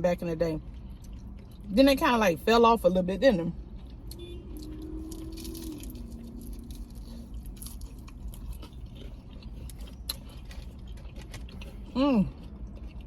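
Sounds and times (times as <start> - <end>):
low steady hum: 0.0 - 13.0
chewing crispy fried food: 0.6 - 2.2, 2.8 - 13.0.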